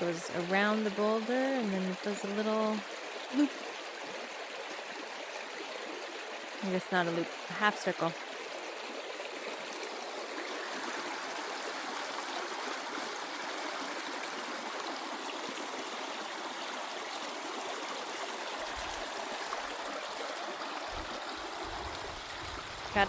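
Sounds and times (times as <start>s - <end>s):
creek running over rocks: 0.0s - 23.0s.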